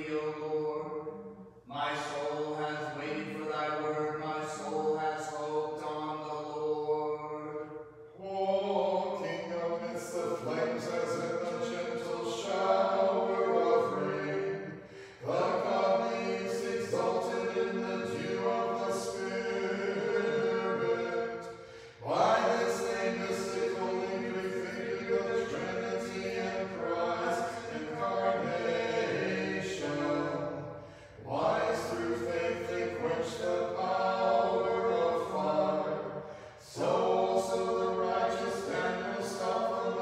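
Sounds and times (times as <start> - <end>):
choir singing a cappella chant: 0.0 - 40.0.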